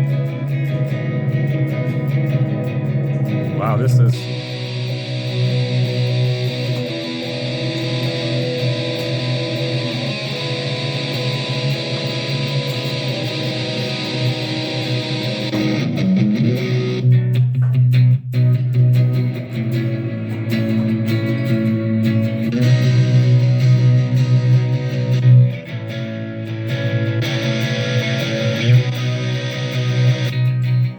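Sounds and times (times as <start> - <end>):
electric guitar: 0.0 - 30.9.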